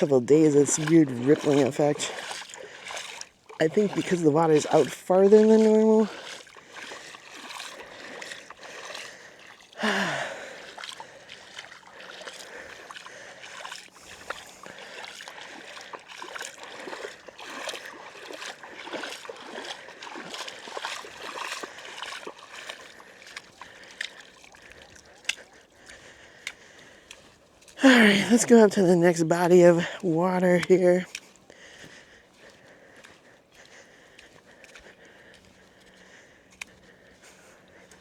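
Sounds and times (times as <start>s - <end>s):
footsteps squelching through mud: 0.0s - 38.0s
wind and water hiss: 0.0s - 38.0s.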